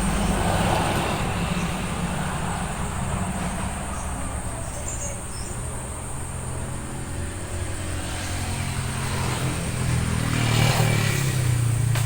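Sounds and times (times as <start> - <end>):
vehicle engine passing: 0.0 - 4.7, 6.0 - 12.0.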